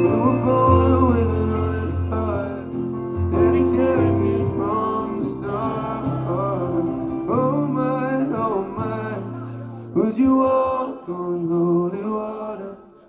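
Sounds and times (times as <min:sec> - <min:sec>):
acoustic guitar playing: 0:00.0 - 0:12.1
person singing: 0:00.0 - 0:13.0.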